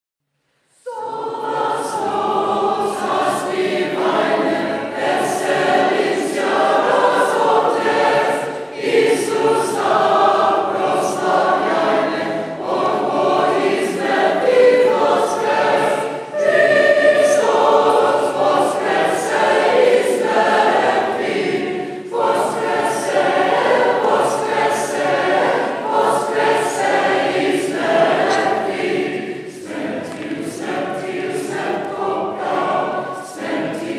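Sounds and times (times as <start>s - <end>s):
choir singing a chant: 0.6s - 33.9s.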